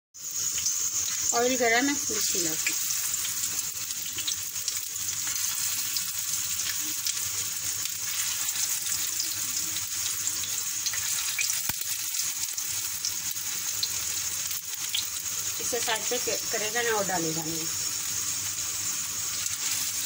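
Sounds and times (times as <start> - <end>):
patties sizzling in hot oil: 0.2 - 20.0.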